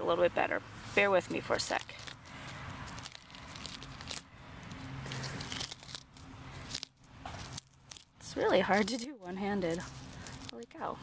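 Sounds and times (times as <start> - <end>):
petals tearing and rustling: 1.2 - 10.9.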